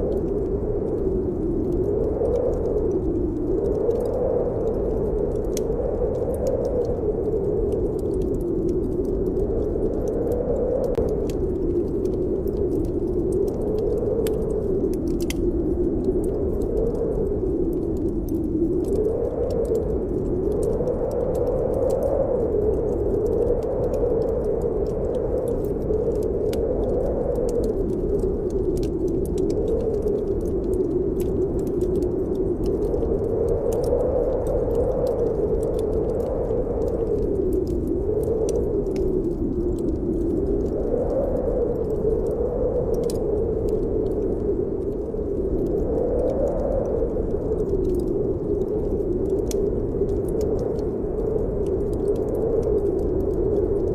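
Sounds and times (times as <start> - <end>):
log fire crackling: 0.0 - 53.9
wind howling: 0.0 - 53.9.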